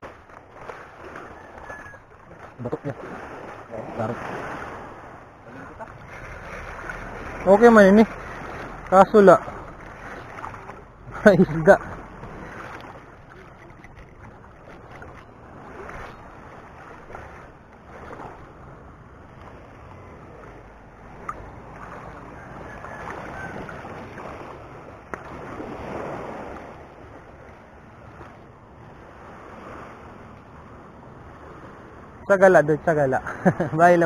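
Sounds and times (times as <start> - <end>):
waves lapping on pebbly shore: 0.0 - 33.2.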